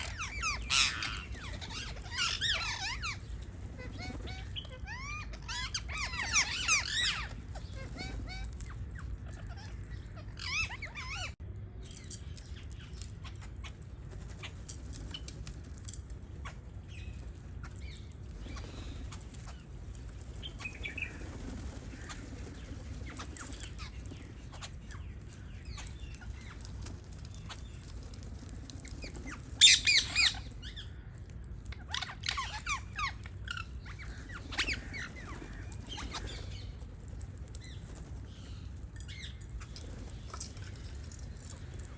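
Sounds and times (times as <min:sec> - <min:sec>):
low steady hum: 0:00.0 - 0:41.9
parrots chirping and squawking: 0:00.0 - 0:41.9.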